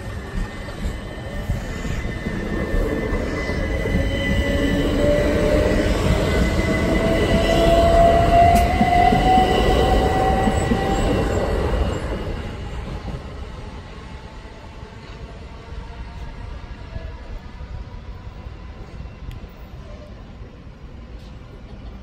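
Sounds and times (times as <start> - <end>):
train wheel and rail rumble: 0.0 - 22.0.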